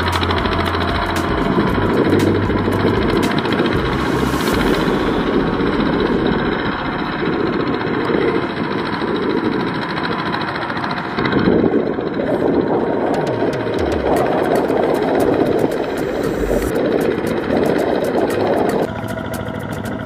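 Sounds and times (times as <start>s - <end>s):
hand tractor engine running: 0.0s - 20.0s.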